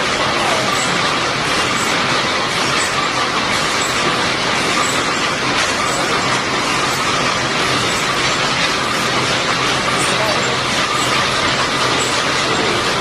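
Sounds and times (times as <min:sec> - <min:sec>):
wire mesh machine running: 0:00.0 - 0:13.0.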